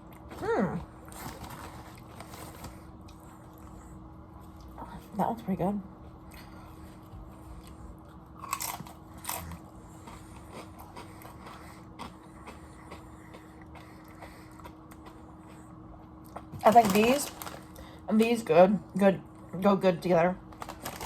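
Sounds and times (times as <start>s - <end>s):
crunching and chewing chips: 0.0s - 4.8s, 6.2s - 18.5s, 20.4s - 21.0s.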